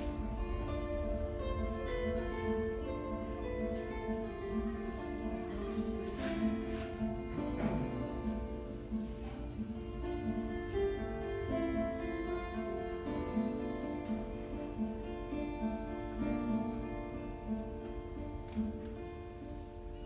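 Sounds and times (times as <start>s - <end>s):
classical guitar playing: 0.0s - 20.0s.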